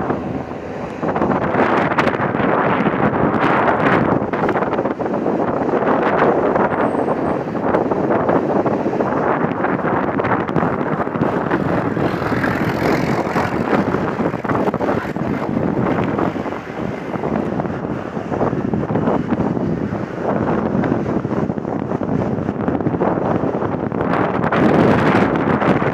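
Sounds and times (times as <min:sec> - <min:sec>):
jet engines rumbling: 0:00.0 - 0:24.5
wind buffeting the microphone: 0:00.0 - 0:25.9.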